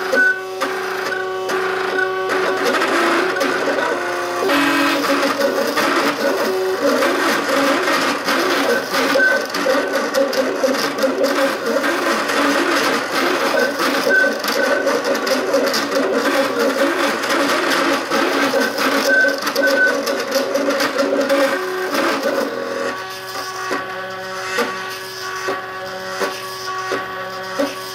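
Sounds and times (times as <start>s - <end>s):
stepper motors whining: 0.0s - 27.9s.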